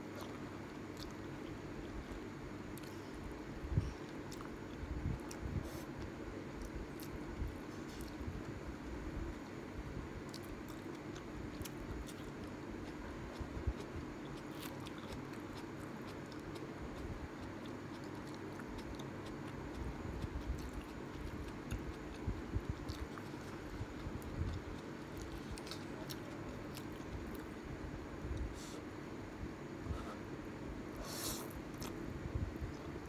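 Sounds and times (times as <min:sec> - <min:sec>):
steady low hum: 0:00.0 - 0:33.0
person chewing noodles: 0:00.1 - 0:03.2, 0:03.9 - 0:08.5, 0:10.2 - 0:27.6, 0:31.0 - 0:33.0.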